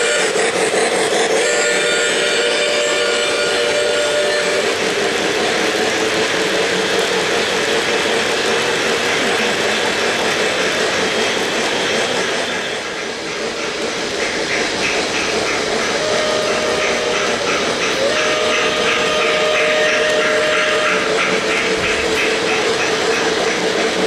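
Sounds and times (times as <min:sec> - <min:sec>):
model trains rolling rumble: 0:00.0 - 0:24.0
rhythmic chuffing: 0:00.0 - 0:24.0.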